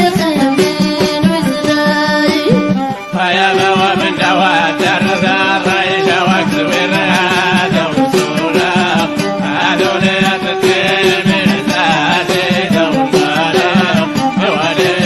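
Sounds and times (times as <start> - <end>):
folk song with voice: 0.0 - 15.0
steady drum beat: 2.4 - 15.0.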